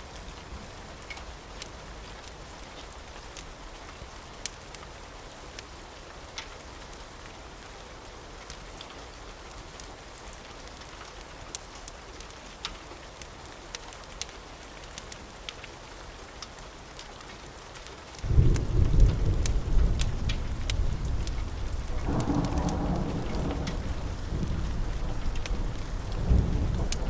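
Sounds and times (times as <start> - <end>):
sharp crackles and pops: 0.0 - 27.0
steady rain: 0.0 - 27.0.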